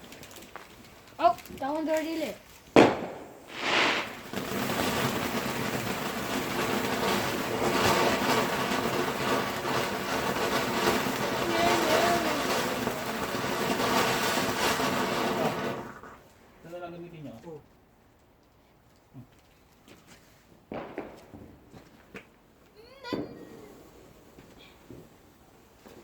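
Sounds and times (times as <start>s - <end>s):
firework hissing crackle with pops: 0.0s - 17.6s, 18.2s - 26.0s.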